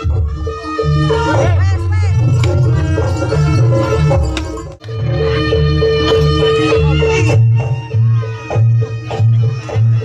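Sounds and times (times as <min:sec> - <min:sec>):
drums and pitched percussion: 0:00.0 - 0:10.0.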